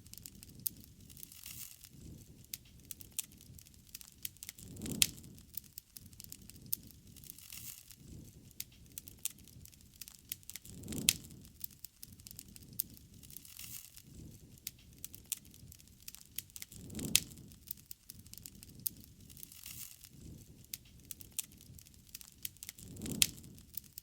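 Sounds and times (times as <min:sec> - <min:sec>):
campfire crackling: 0:00.0 - 0:24.0
fire snaps: 0:00.0 - 0:24.0.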